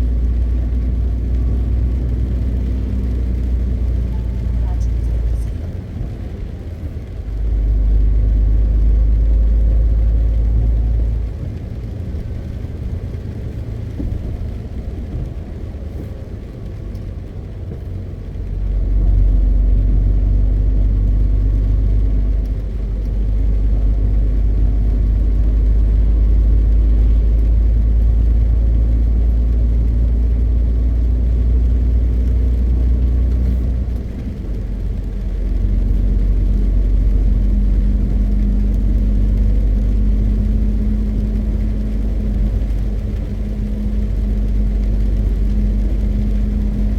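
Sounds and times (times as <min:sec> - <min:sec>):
truck diesel engine drone: 0:00.0 - 0:46.9.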